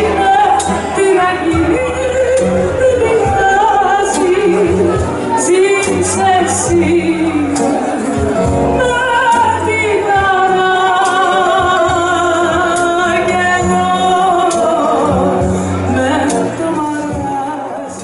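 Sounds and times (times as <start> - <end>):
bouzouki: 0.0 - 18.0
double bass: 0.0 - 18.0
guitar: 0.0 - 18.0
woman singing: 0.0 - 18.0.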